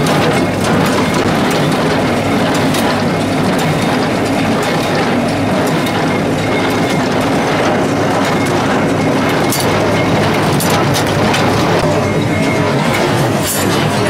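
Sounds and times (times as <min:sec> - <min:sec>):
baler parts clicking: 0:00.0 - 0:14.0
hay baler clattering: 0:00.0 - 0:14.0.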